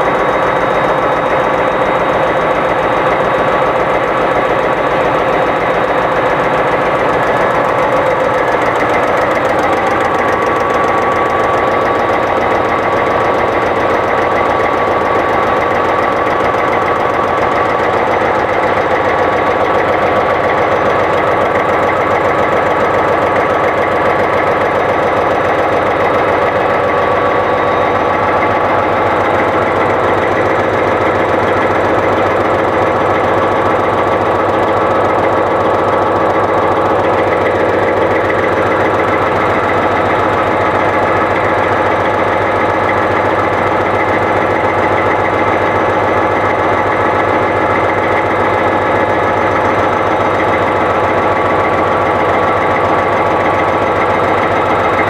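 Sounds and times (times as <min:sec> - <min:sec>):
diesel engine running: 0:00.0 - 0:55.0
valve train clatter: 0:00.0 - 0:55.0.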